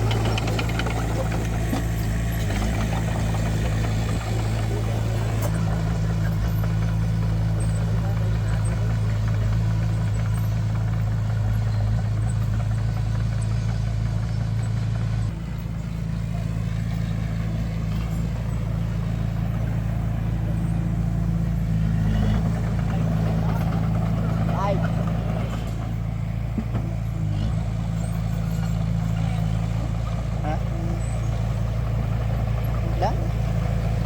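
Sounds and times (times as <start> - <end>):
construction machine diesel engine: 0.0 - 34.0.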